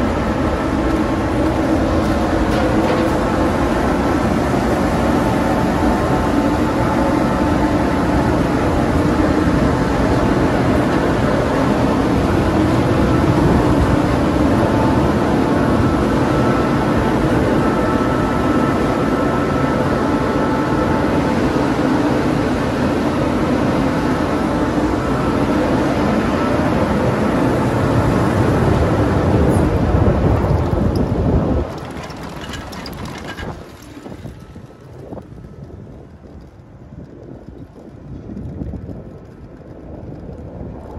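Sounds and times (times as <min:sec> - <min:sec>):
chairlift machinery humming: 0:00.0 - 0:36.4.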